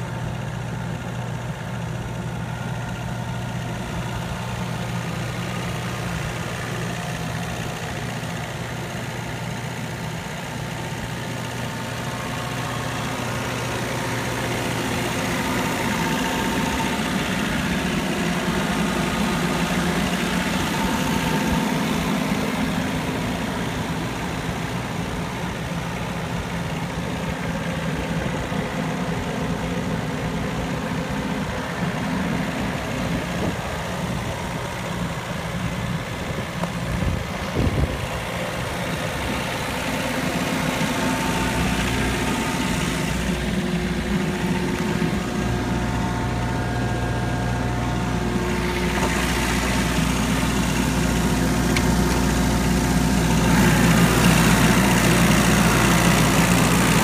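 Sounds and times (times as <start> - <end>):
mower diesel engine idling: 0.0 - 57.0.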